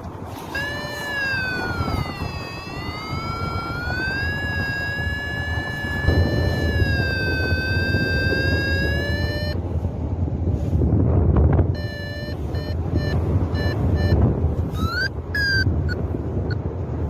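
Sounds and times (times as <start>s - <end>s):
wind rumbling on microphone: 0.0s - 17.0s
variometer alarm tone: 0.4s - 9.6s, 11.7s - 16.6s.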